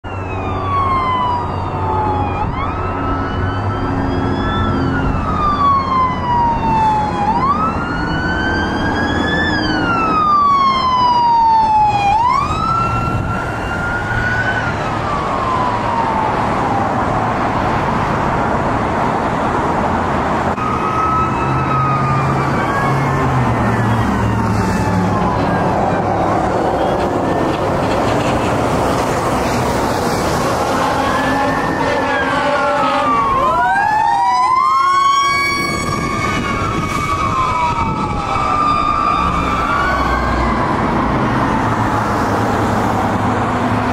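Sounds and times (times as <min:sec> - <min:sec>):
mechanical siren screaming: 0:00.0 - 0:17.5, 0:20.6 - 0:27.6, 0:29.4 - 0:42.1
emergency sirens wailing: 0:00.0 - 0:43.9
passing traffic: 0:00.0 - 0:43.9.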